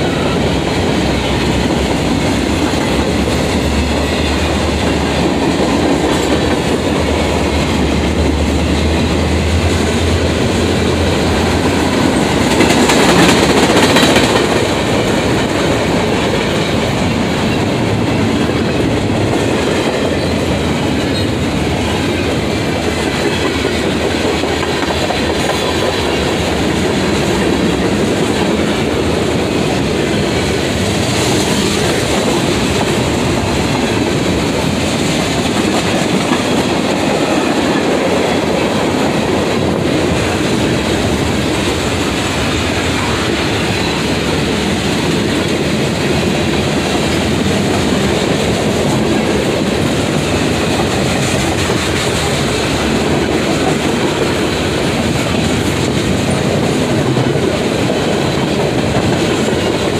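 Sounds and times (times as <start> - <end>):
train rumble: 0.0 - 59.9
train wheels clacking on rails: 0.0 - 59.9.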